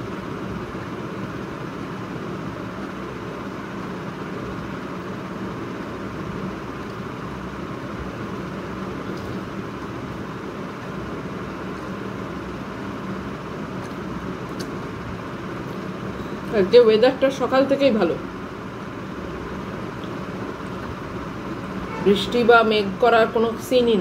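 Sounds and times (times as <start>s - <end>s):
whooshing machine hum: 0.0s - 24.0s.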